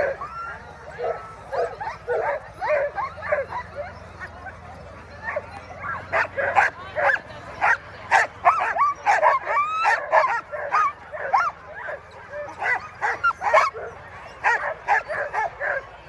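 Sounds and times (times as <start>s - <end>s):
sled dogs barking and yelping: 0.0s - 16.0s.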